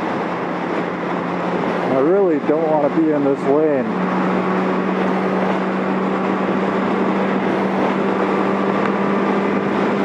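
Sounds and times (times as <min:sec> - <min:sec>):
motorcycle engine cruising: 0:00.0 - 0:10.0
wind noise: 0:00.0 - 0:10.0.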